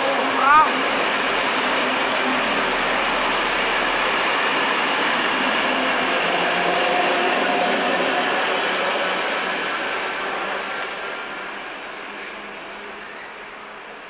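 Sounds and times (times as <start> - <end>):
electric train rolling past: 0.0 - 14.0.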